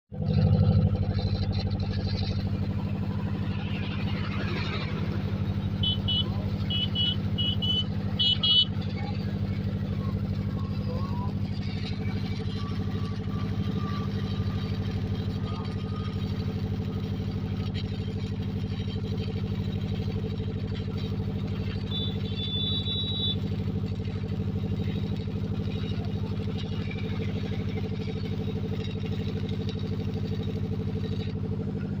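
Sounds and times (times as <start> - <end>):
engine running steadily: 0.1 - 32.0.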